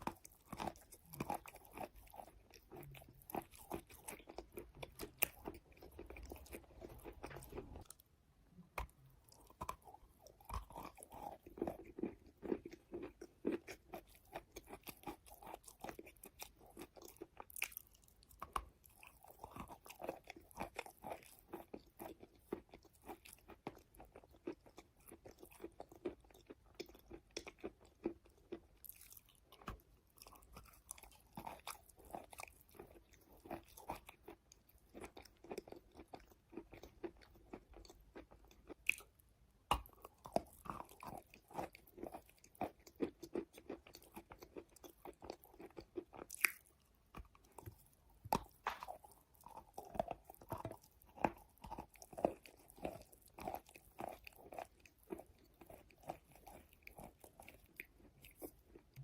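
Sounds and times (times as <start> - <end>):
chewing soft chalk: 0.0 - 59.0.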